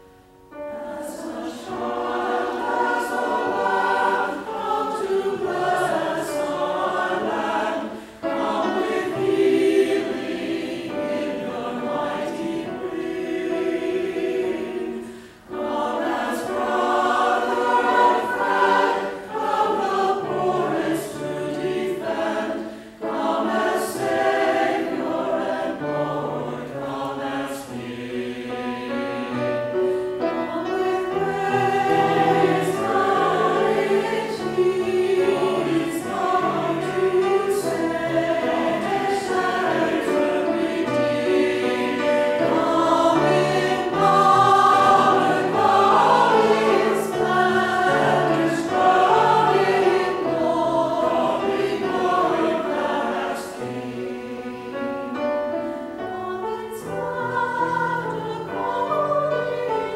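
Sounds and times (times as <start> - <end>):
mixed choir singing: 0.0 - 59.9.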